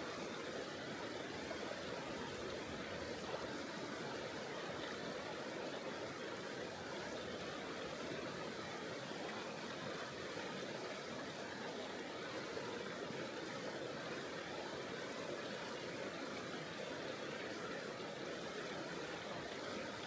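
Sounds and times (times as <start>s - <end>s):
river flowing over rocks: 0.0s - 20.0s.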